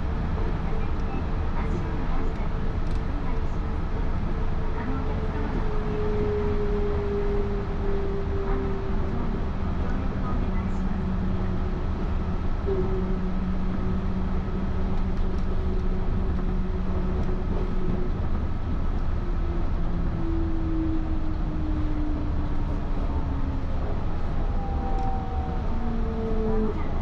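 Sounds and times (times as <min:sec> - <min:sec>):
train interior rumble: 0:00.0 - 0:27.0.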